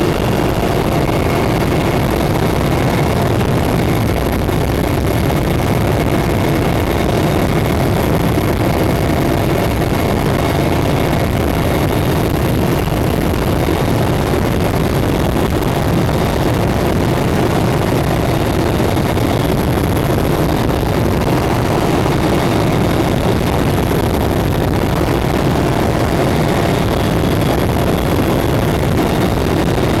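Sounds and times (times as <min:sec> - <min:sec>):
faint high-pitched whines: 0:00.0 - 0:30.0
helicopter drone from inside cabin: 0:00.0 - 0:30.0.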